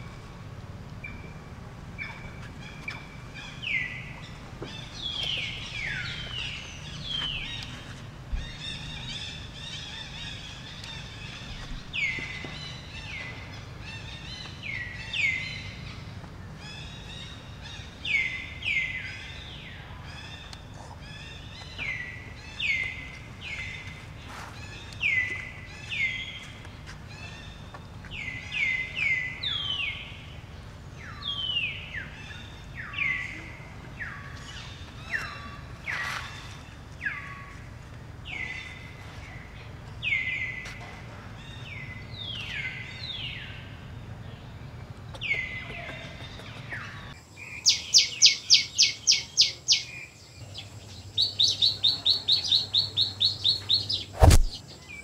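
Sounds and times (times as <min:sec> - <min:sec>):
low background rumble: 0:00.0 - 0:47.2.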